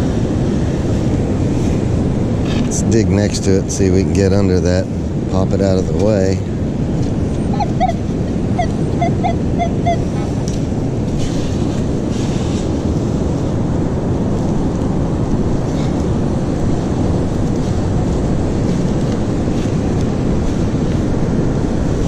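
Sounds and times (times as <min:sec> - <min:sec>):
heavy surf rumbling: 0:00.0 - 0:22.0
wind on microphone: 0:00.0 - 0:22.0.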